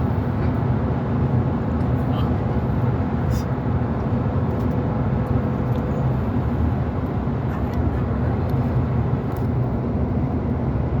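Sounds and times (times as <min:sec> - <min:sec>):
faint machinery hum: 0:00.0 - 0:11.0
train rumbling: 0:00.0 - 0:11.0.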